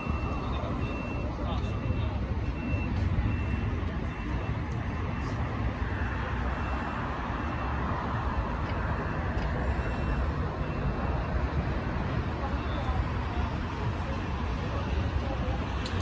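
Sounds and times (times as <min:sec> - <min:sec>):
airport noise: 0:00.0 - 0:16.0
distant traffic rumble: 0:00.0 - 0:16.0
vehicle reversing beeper: 0:00.0 - 0:16.0.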